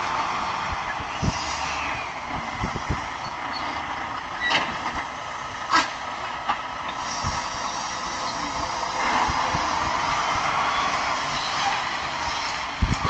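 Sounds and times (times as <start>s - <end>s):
vehicle running: 0.0s - 13.0s.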